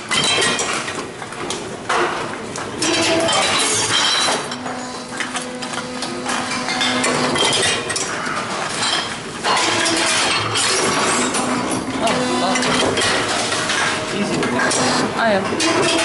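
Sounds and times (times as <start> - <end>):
glass bottles clinking: 0.0 - 1.0, 2.8 - 16.0
machine humming: 2.4 - 16.0.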